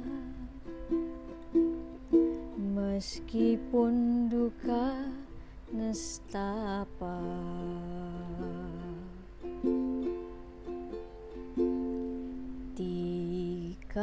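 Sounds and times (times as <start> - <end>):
person singing: 0.0 - 14.0
plucked string accompaniment: 0.0 - 14.0.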